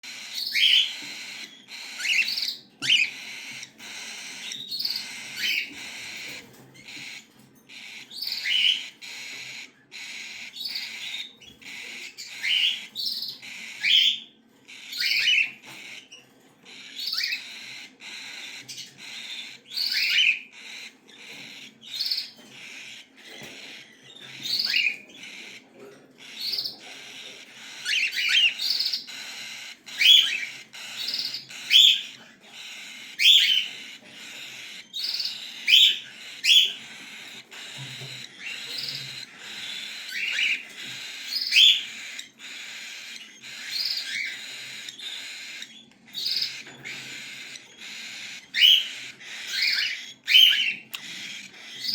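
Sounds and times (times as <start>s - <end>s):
chicks chirping: 0.0s - 51.9s.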